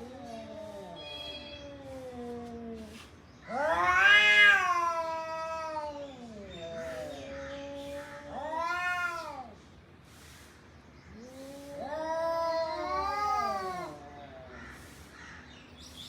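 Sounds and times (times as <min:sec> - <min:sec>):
cat meowing: 0:00.0 - 0:09.6, 0:11.4 - 0:14.9.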